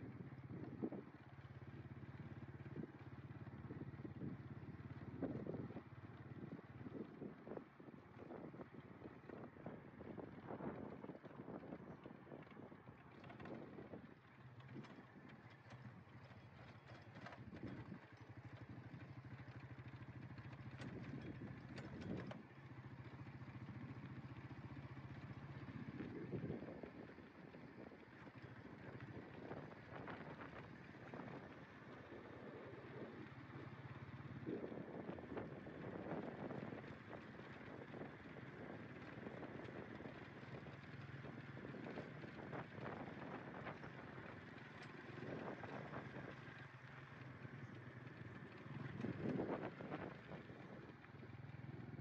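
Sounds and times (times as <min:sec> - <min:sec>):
engine running steadily: 0:00.0 - 0:52.0.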